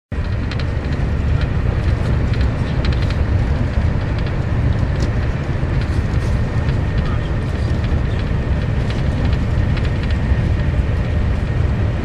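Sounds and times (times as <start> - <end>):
train rumbling inside carriage: 0.1 - 12.0.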